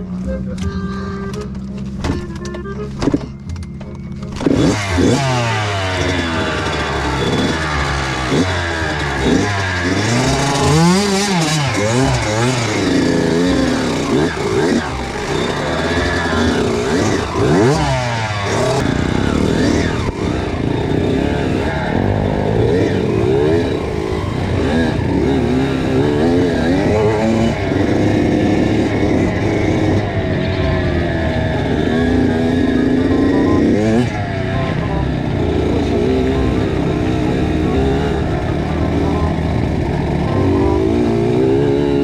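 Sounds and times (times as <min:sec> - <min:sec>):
dirt bike engine revving: 0:03.7 - 0:42.0.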